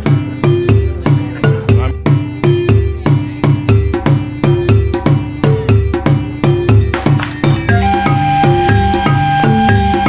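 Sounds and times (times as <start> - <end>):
background music with bass beat: 0.0 - 10.0.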